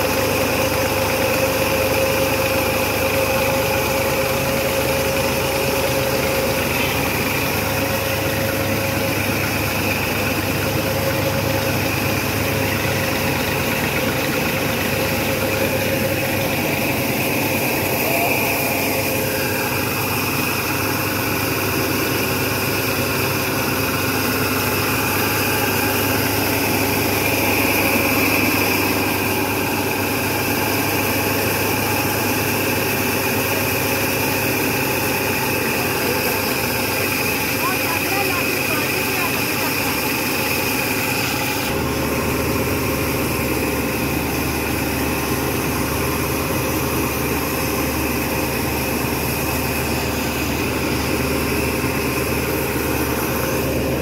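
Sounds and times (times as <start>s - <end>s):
cotton gin mechanical hum: 0.0s - 54.0s
high machine whine: 0.0s - 54.0s.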